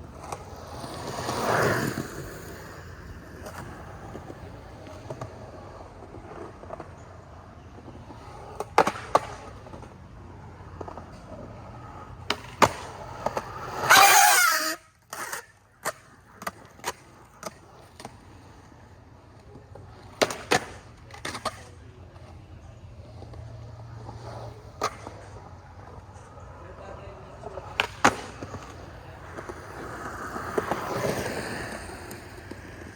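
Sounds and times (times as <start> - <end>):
skateboard clacks on ground: 0.0 - 32.9
skateboard rolling on concrete: 0.0 - 32.9.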